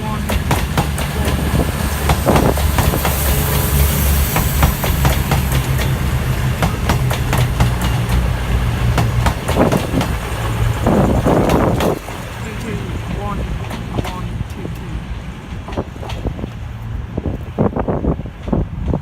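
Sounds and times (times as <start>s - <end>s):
train rumble: 0.0s - 19.0s
train wheels clicking on rails: 0.0s - 19.0s.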